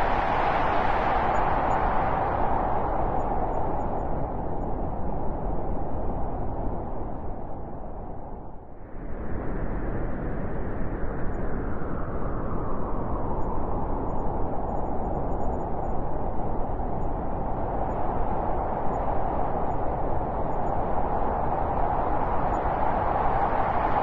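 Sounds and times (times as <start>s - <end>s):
wind blowing in gusts: 0.0s - 24.0s.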